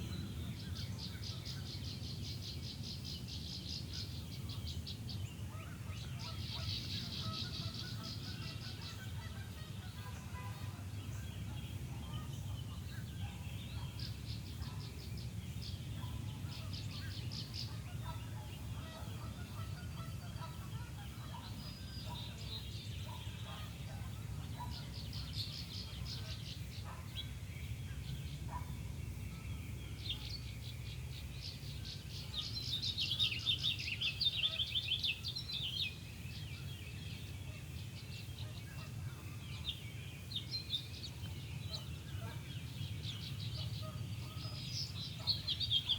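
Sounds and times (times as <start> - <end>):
songbirds trilling: 0.0 - 45.9.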